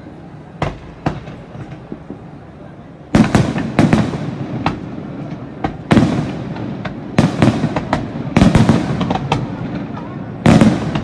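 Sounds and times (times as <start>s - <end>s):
firework shells booming: 0.5s - 2.3s, 3.1s - 11.0s.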